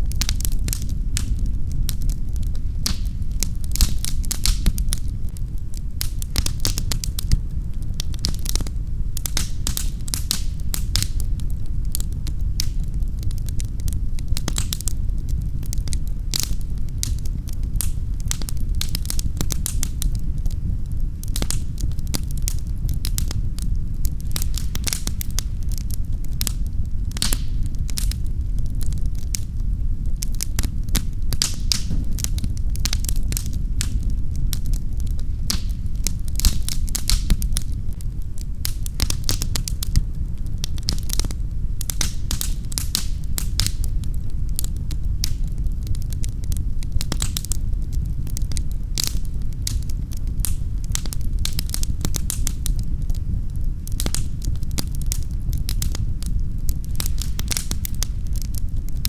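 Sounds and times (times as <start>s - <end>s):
low rumble of burning: 0.0s - 59.0s
wood fire popping and snapping: 0.0s - 59.0s.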